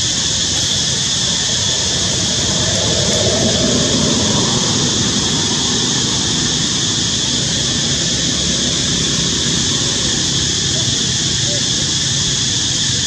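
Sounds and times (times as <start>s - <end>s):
cicadas droning: 0.0s - 13.0s
low uneven noise: 0.0s - 13.0s.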